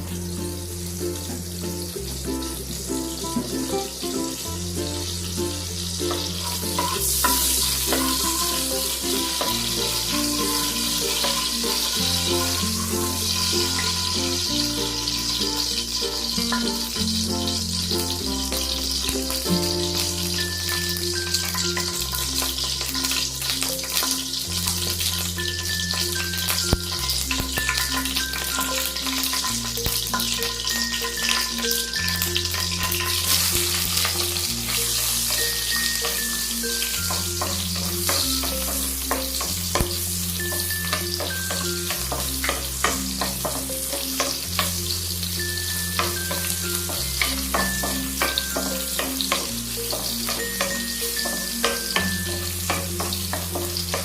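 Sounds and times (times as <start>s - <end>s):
background music with bass line: 0.0s - 54.0s
food sizzling in hot oil: 0.0s - 54.0s
spatula scraping and tapping pan: 6.1s - 54.0s.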